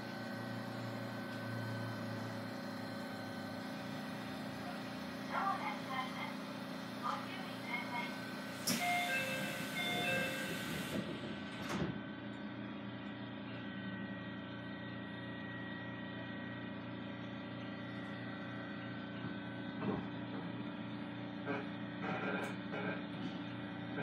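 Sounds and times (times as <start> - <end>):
train electrical hum: 0.0 - 24.0.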